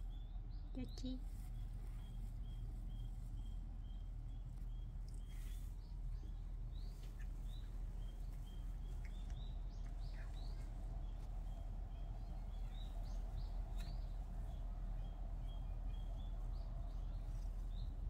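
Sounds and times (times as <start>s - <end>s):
low background rumble: 0.0s - 18.0s
small birds chirping: 0.0s - 18.0s.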